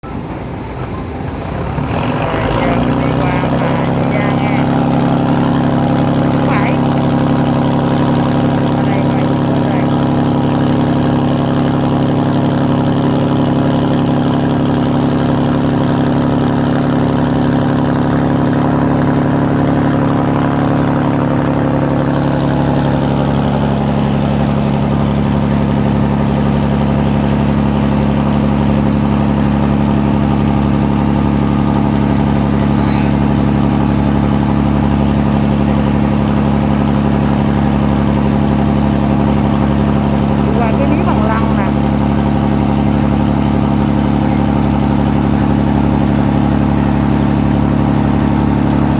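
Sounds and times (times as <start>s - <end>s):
ferry engine droning: 0.0s - 48.9s.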